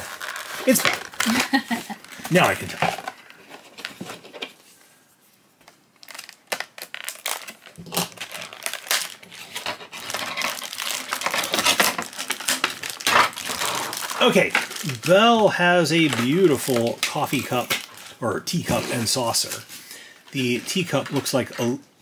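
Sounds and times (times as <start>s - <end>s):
plastic packaging crinkling: 0.0s - 4.4s, 5.6s - 21.8s.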